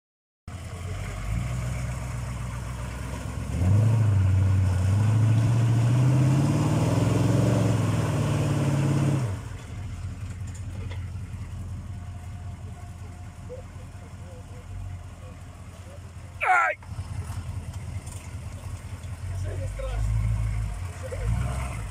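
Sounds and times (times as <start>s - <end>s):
diesel truck engine under load: 0.5s - 21.9s.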